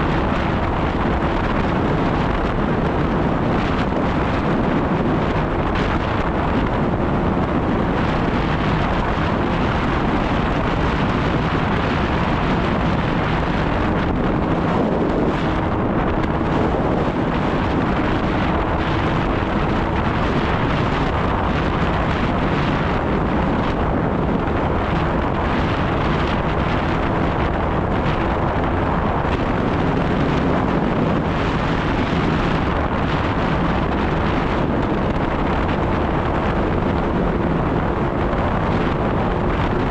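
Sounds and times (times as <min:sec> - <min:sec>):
snowmobile engine running: 0:00.0 - 0:39.9
wind noise on microphone: 0:00.0 - 0:39.9.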